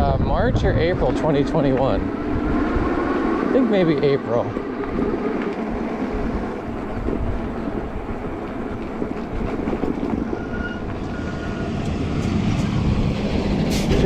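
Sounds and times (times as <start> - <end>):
electric bike rumble: 0.0 - 14.0
wind rushing over microphone: 0.0 - 14.0.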